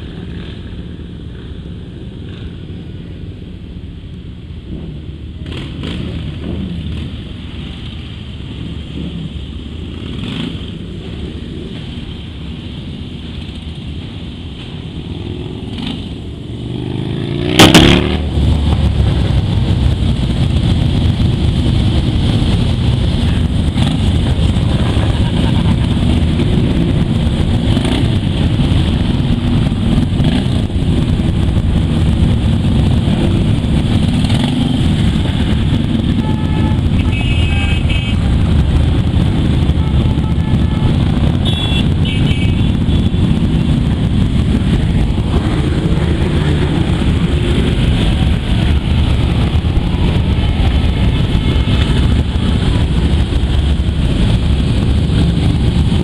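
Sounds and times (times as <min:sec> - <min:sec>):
motorcycle engines rumbling: 0:00.0 - 0:56.0.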